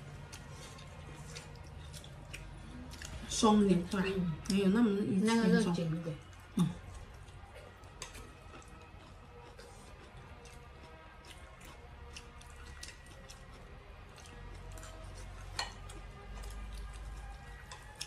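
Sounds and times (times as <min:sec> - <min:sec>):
chewing: 0:00.0 - 0:18.0
faint background music: 0:00.0 - 0:18.0.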